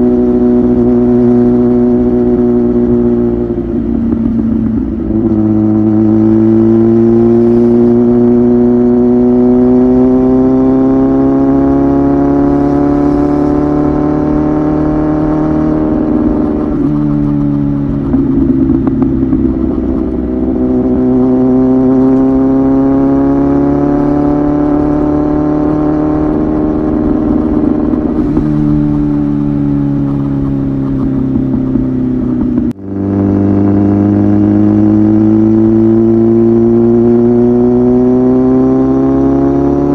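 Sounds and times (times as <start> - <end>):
motorcycle exhaust revving: 0.0 - 39.9.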